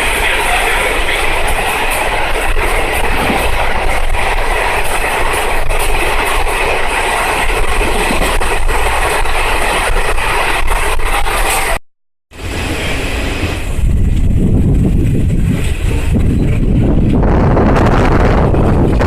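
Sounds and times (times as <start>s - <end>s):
wheels rumbling on rails: 0.0s - 19.0s.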